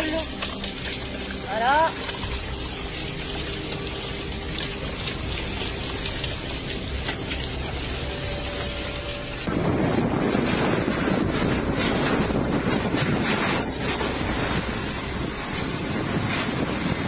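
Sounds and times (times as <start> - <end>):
heavy rain: 0.0 - 17.0
running floodwater: 0.0 - 17.0
wind rumbling on microphone: 0.0 - 17.0.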